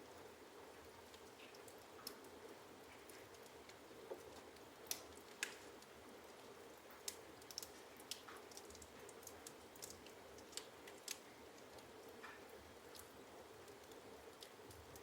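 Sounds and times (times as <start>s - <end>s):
logs crackling and popping: 0.0s - 15.0s.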